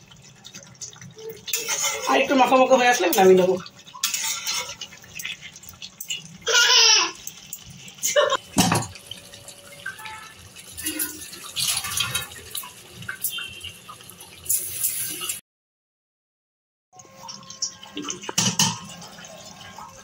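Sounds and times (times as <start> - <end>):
curry bubbling and spluttering: 0.0 - 15.4, 17.0 - 20.0.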